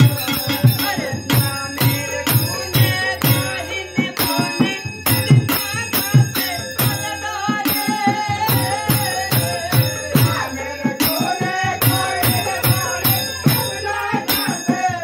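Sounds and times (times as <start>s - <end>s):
devotional chant singing: 0.0s - 15.0s.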